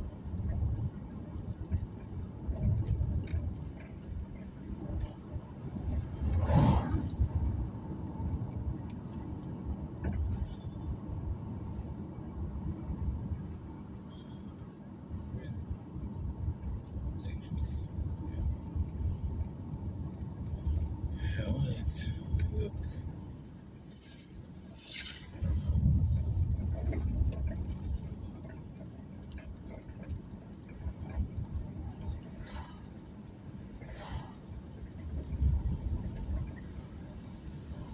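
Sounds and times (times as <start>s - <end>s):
car engine and tyres rumbling: 0.0s - 37.9s.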